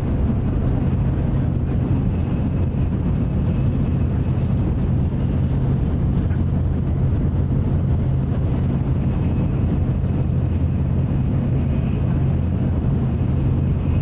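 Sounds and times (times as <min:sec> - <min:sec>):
train rumble inside cabin: 0:00.0 - 0:14.0.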